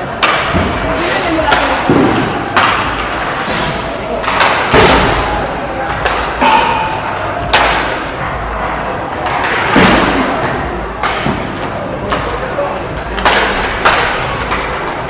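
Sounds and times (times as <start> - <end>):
voices of players and spectators: 0.0 - 15.0
hockey sticks and puck knocking: 0.1 - 15.0.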